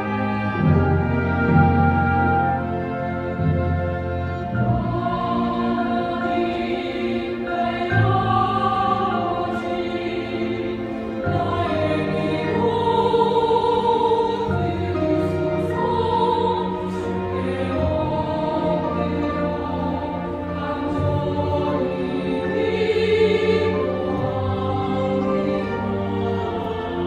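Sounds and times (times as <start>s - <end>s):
choir singing: 0.0s - 27.0s
string orchestra and piano: 0.0s - 27.0s.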